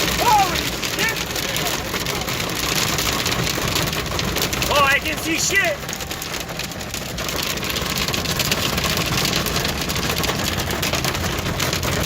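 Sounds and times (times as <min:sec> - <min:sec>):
hail hitting car roof: 0:00.0 - 0:12.0
vehicle noise: 0:00.0 - 0:12.0.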